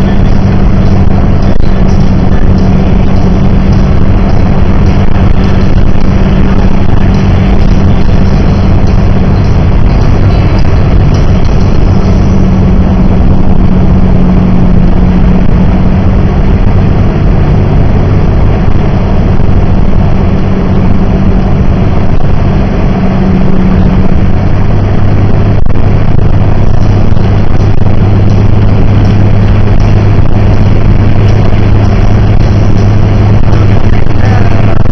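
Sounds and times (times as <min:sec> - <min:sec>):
car engine drone: 0:00.0 - 0:34.9
tyres rushing on snowy road: 0:00.0 - 0:34.9.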